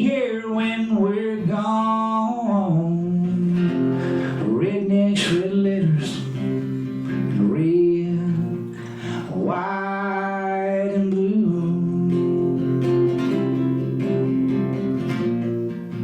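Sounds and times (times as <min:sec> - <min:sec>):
acoustic guitar strumming: 0:00.0 - 0:16.0
person singing: 0:00.0 - 0:16.0.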